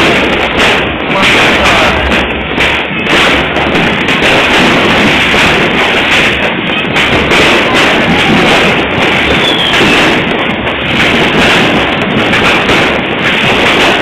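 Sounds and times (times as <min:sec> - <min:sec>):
fireworks bangs and crackle: 0:00.0 - 0:14.0.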